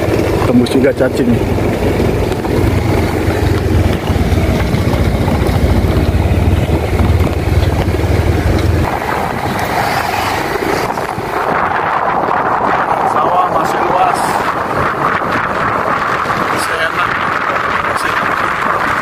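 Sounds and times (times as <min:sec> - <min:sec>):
motorbike engine rumble: 0:00.0 - 0:19.0
wind buffeting microphone: 0:00.0 - 0:19.0.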